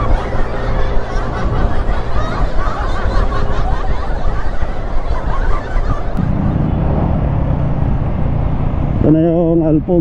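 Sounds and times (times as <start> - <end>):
motorcycle engine hum: 0.0 - 10.0
wind buffeting microphone: 0.0 - 10.0.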